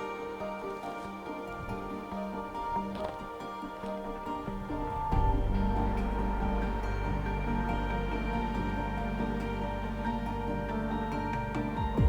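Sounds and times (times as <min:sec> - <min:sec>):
soft sustained instrumental music: 0:00.0 - 0:12.0.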